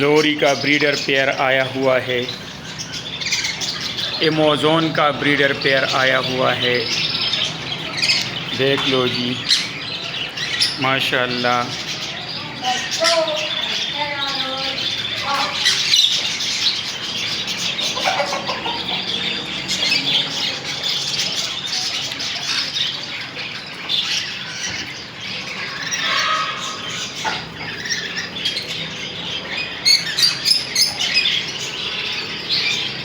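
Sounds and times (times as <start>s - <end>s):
parrots squawking and chirping: 0.0s - 33.0s.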